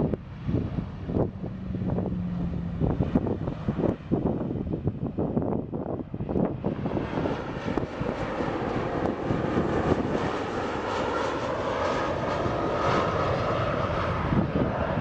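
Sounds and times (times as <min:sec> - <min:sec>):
jet engine rushing with whine: 0:00.0 - 0:15.0
wind buffeting microphone: 0:00.0 - 0:15.0.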